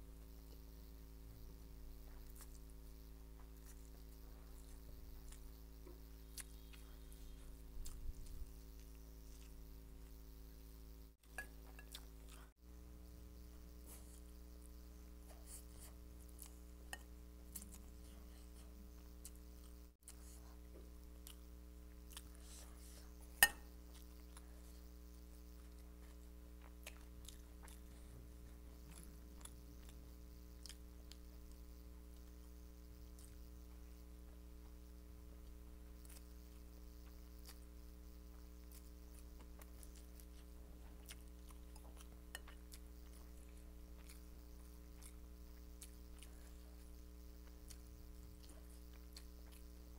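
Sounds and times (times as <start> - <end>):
steady low hum: 0.0 - 49.9
person chewing noodles: 2.1 - 2.8, 3.4 - 5.6, 6.2 - 10.1, 11.2 - 12.6, 13.9 - 33.9, 35.4 - 49.9.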